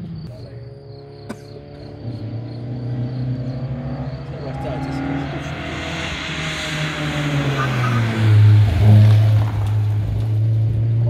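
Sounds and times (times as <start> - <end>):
rally car engine passing at speed: 0.4 - 11.0.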